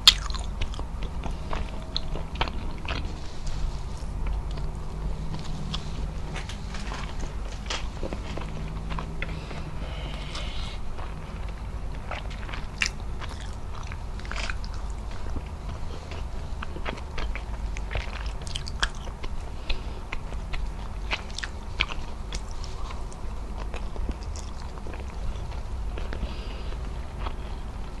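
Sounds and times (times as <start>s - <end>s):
wet chewing and mouth smacks: 0.0s - 28.0s.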